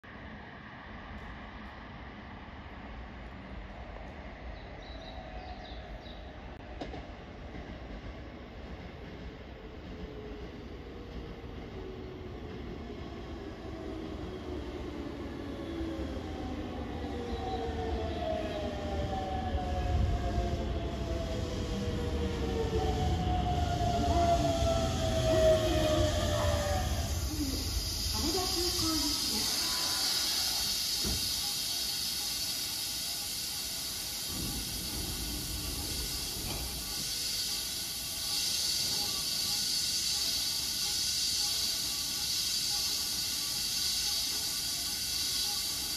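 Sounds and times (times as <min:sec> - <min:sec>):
train wheels rumbling: 0:06.5 - 0:45.9.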